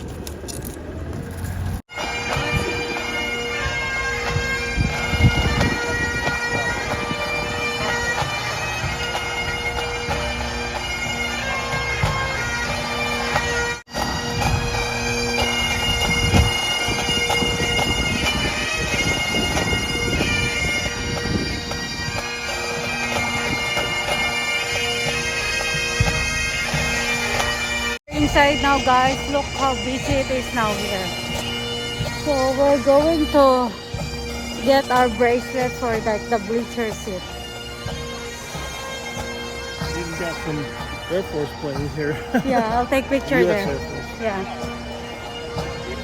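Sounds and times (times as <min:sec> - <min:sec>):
bagpipes playing tune: 0:01.8 - 0:46.0.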